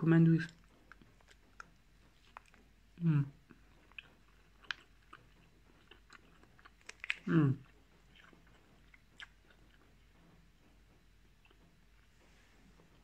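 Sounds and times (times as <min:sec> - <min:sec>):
chewing crunchy chips: 0:00.4 - 0:12.2.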